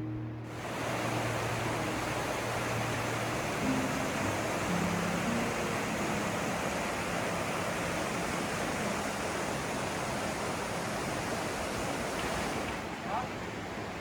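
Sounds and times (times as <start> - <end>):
mountain river rushing: 0.4 - 14.0.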